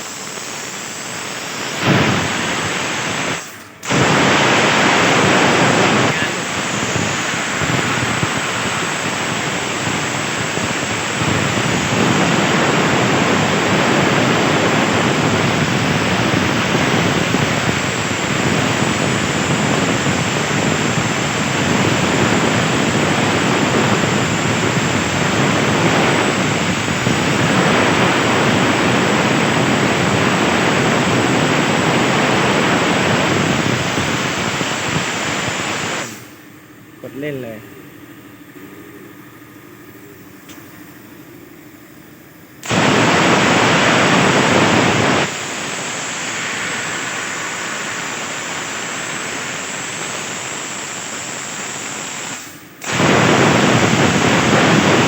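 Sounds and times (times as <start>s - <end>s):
plasma torch hissing rush: 0.0s - 36.4s, 42.6s - 55.0s.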